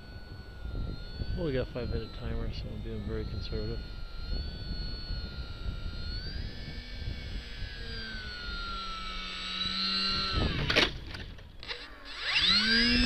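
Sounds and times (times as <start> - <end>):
wind rumble on microphone: 0.0 - 11.6
model plane motor whining: 0.0 - 13.0.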